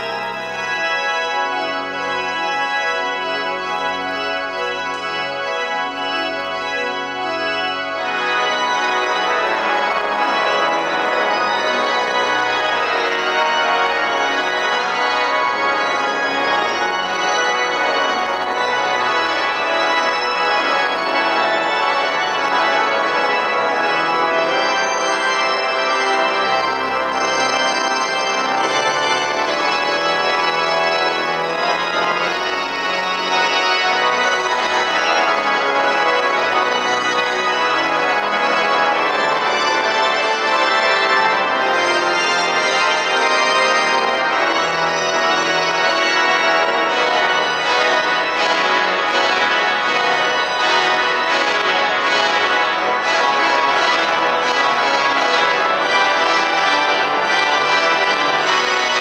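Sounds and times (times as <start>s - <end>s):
pipe organ chords: 0.0s - 59.0s.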